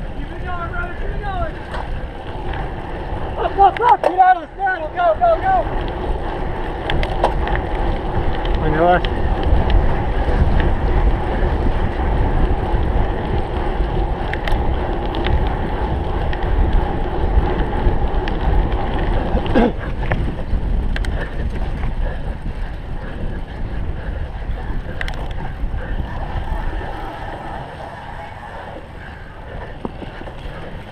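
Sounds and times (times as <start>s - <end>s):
bike clicks and rattles: 0.0s - 30.9s
tyres droning on ground: 0.0s - 30.9s
wind on microphone: 0.0s - 30.9s.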